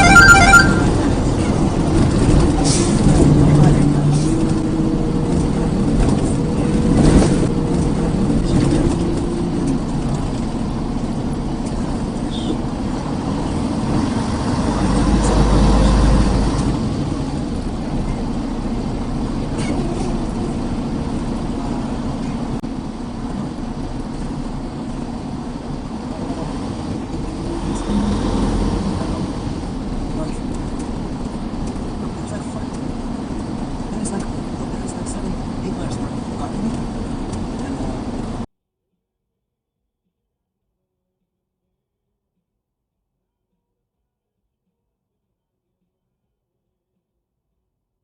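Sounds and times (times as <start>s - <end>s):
car engine and road noise: 0.0s - 38.5s.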